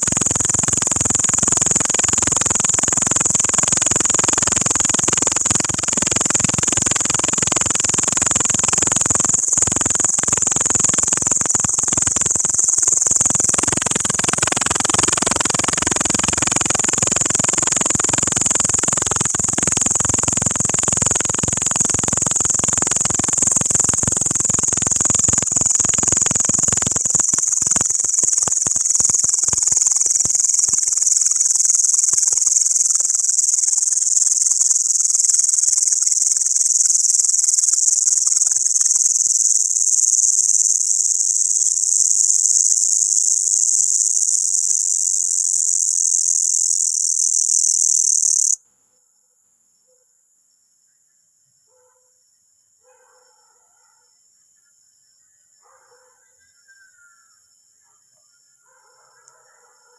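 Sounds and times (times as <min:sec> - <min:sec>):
insect high-pitched buzzing: 0:00.0 - 0:48.6.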